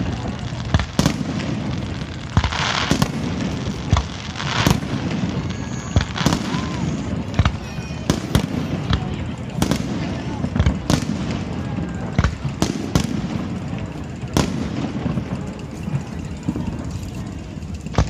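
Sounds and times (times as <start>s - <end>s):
fireworks bangs: 0.0s - 18.0s
fireworks hissing crackle: 0.0s - 18.0s.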